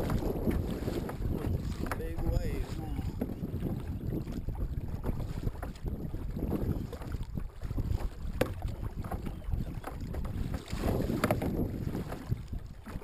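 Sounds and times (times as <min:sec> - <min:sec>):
kayak paddle splashing: 0:00.0 - 0:13.0
wind buffeting microphone: 0:00.0 - 0:13.0.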